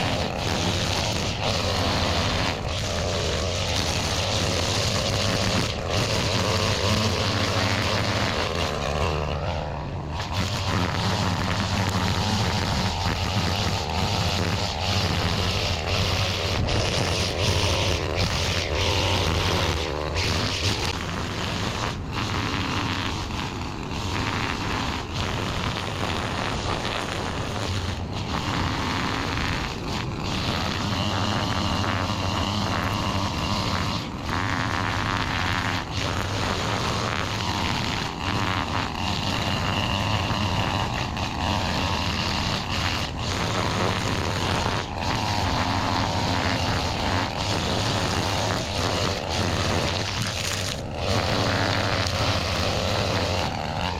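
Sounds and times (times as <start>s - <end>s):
small power tool engine running: 0.0s - 53.9s.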